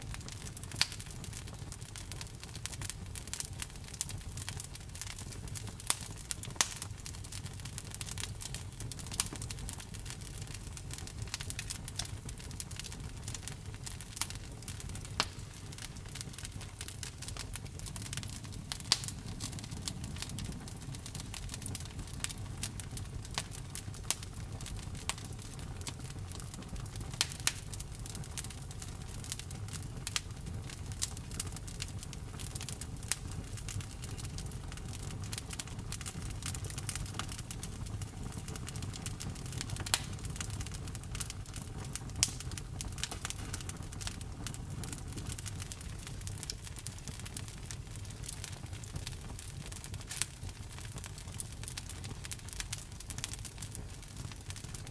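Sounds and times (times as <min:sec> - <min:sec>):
bonfire crackling and popping: 0:00.0 - 0:54.9
low steady fire rumble: 0:00.0 - 0:54.9.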